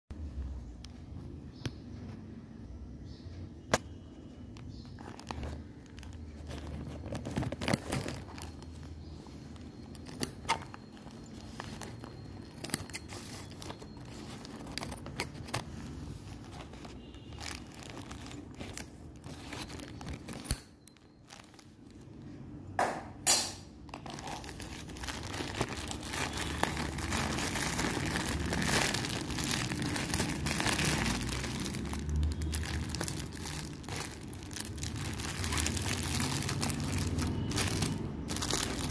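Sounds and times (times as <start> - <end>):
plastic packaging crinkling: 3.8 - 22.4, 23.8 - 38.9.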